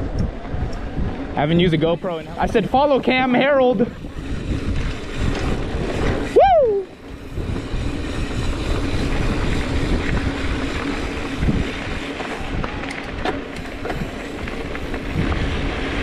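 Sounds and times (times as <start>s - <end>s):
bike tyres rumbling over dirt: 0.0s - 16.0s
wind over camera microphone: 0.0s - 16.0s.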